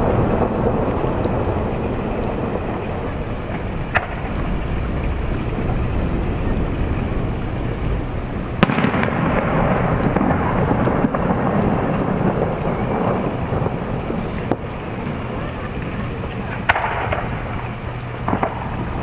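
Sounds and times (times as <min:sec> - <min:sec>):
firework shells bursting: 0:00.0 - 0:19.0
rumbling crackling tail: 0:00.0 - 0:19.0.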